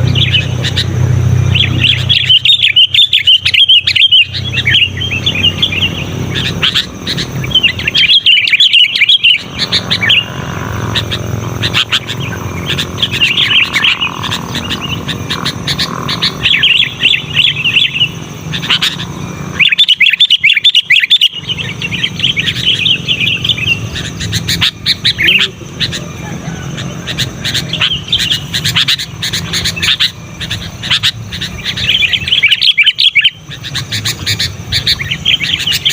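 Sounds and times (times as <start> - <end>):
bird chattering song: 0.0 - 35.9.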